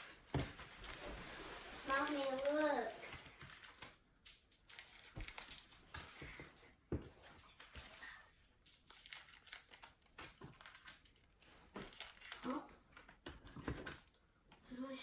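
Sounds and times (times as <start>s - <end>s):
plastic packaging crinkling: 0.0s - 6.4s, 7.3s - 14.2s.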